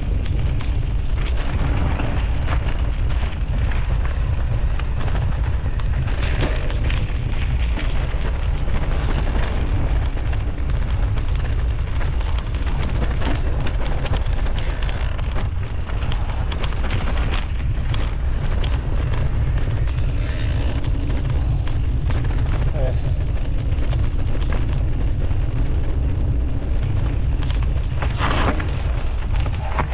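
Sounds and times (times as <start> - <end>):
bike clicks and rattles: 0.0 - 29.9
tyre noise on trail: 0.0 - 29.9
wind buffeting microphone: 0.0 - 29.9.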